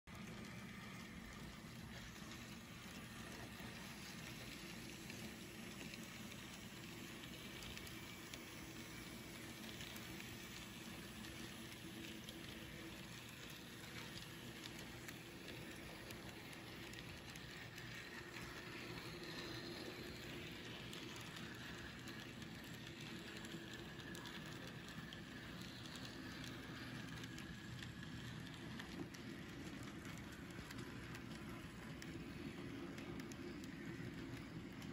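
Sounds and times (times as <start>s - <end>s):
wheels clicking on rails: 0.1s - 34.9s.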